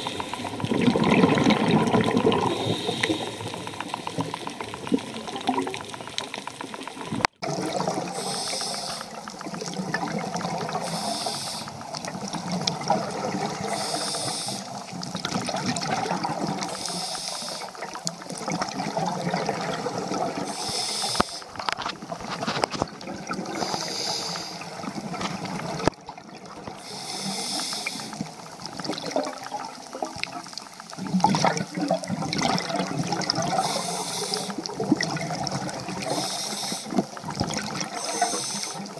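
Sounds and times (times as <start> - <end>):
water rushing and hissing: 0.0 - 38.9.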